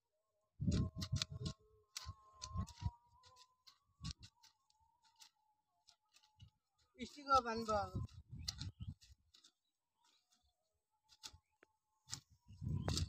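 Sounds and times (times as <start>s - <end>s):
hoes chopping and scraping soil: 0.6s - 13.0s.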